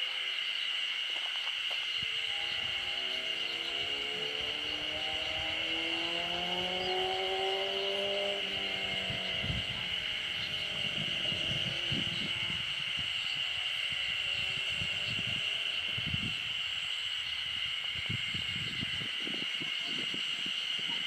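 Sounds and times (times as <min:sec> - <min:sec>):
high-pitched whine: 0:00.0 - 0:21.0
engine hum: 0:01.8 - 0:19.1.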